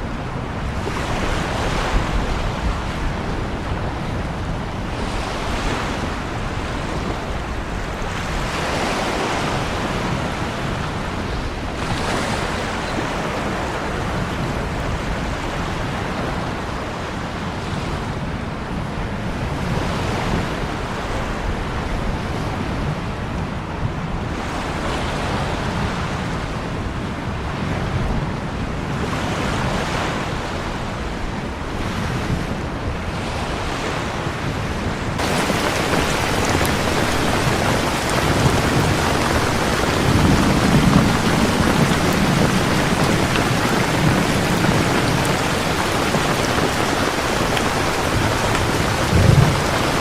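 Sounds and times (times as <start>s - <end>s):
ocean waves breaking on shore: 0.0s - 50.0s.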